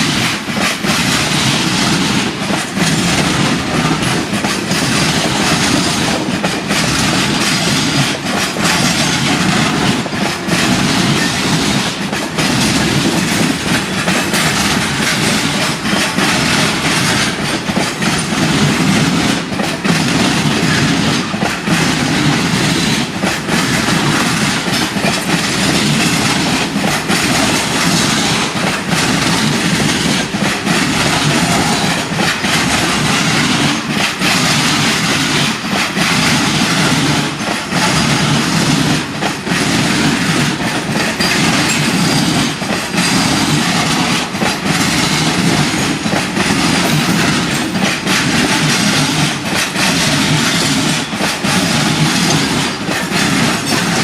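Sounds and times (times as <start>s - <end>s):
railway wagons rumbling: 0.0s - 54.0s
wheels clicking over rail joints: 0.0s - 54.0s.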